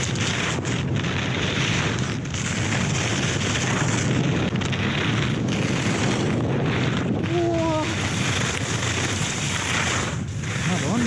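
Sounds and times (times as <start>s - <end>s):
wind buffeting microphone: 0.0s - 11.0s
skis hissing on snow: 0.1s - 11.0s.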